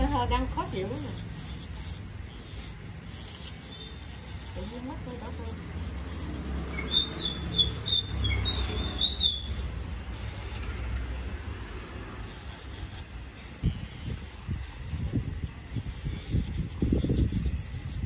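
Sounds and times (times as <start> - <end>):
electric nail drill humming: 0.0 - 18.0
sanding band scraping nail: 0.0 - 18.0.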